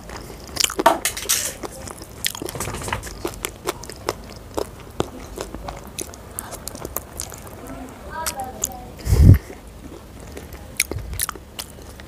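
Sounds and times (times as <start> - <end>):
chewing with wet mouth smacks: 0.0 - 0.9, 1.6 - 2.5, 3.1 - 7.6, 8.2 - 12.0.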